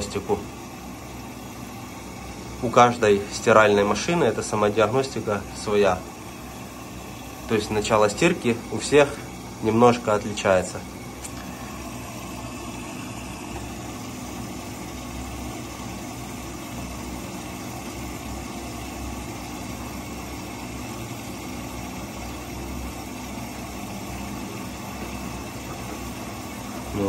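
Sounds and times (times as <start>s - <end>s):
washing machine hum: 0.0s - 27.0s
water running in: 0.0s - 27.0s.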